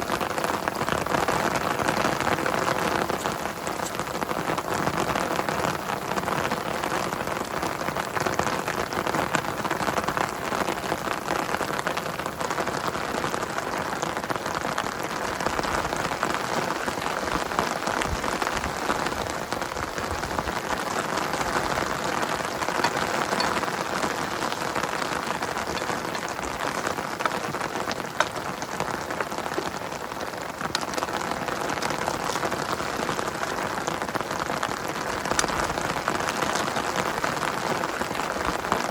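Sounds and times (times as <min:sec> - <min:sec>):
raindrops striking sharply: 0:00.0 - 0:38.9
steady rain falling: 0:00.0 - 0:38.9.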